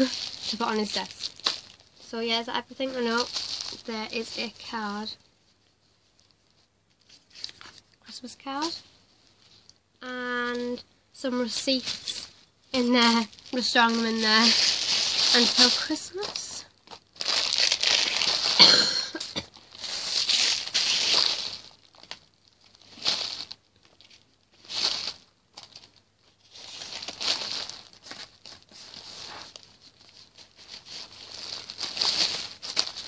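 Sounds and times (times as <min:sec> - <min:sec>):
gift wrapping crinkling: 0:00.0 - 0:09.8, 0:10.5 - 0:33.0.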